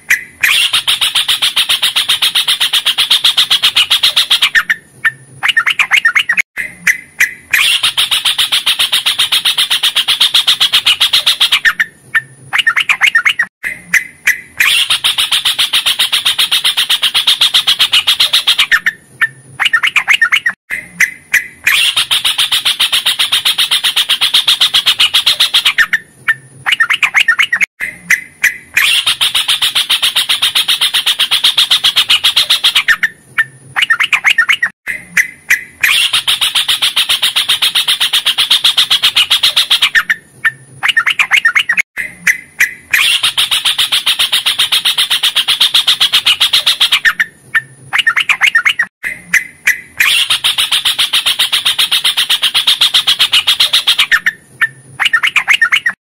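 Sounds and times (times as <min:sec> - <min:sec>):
bird chattering song: 0:00.0 - 0:56.0
bird chirps: 0:00.0 - 0:56.0.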